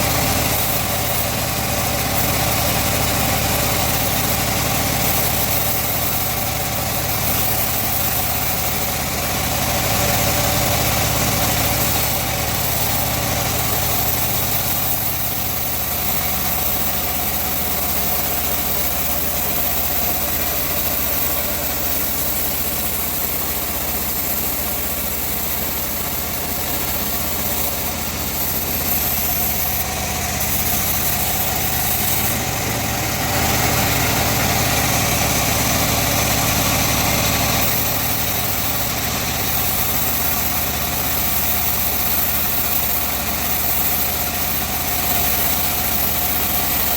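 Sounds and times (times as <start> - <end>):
sawmill machinery droning: 0.0 - 46.9.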